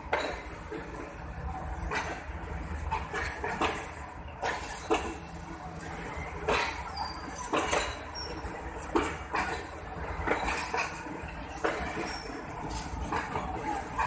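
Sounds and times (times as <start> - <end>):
train wheels knocking over rail joints: 0.0 - 5.4, 6.4 - 14.0
low train rumble: 0.0 - 14.0
wheels squeaking: 0.0 - 14.0.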